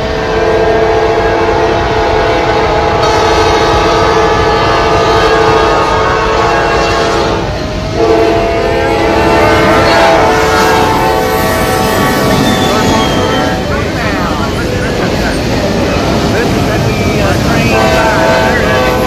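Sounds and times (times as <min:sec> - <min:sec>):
locomotive air horn chord: 0:00.0 - 0:13.9, 0:17.6 - 0:19.0
traffic noise: 0:00.0 - 0:19.0
train rumble: 0:00.0 - 0:19.0.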